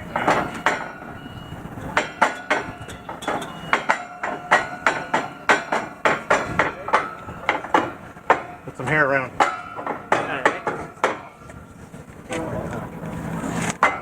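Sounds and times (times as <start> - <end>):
forklift forks clanking: 0.0 - 11.6, 13.3 - 14.0.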